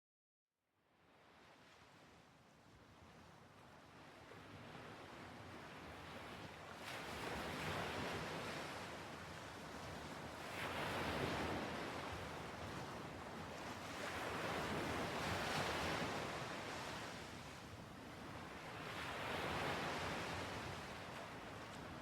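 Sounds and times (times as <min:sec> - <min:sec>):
ocean waves washing onto shore: 0:04.0 - 0:22.0.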